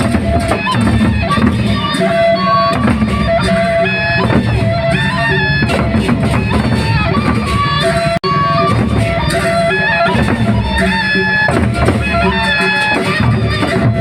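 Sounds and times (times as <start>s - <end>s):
drums: 0.0s - 14.0s
melodic line of held notes: 0.6s - 13.8s.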